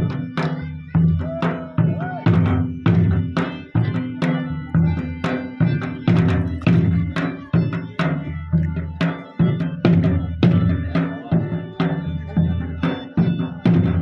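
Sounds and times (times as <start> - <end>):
folk dance music: 0.0 - 14.0.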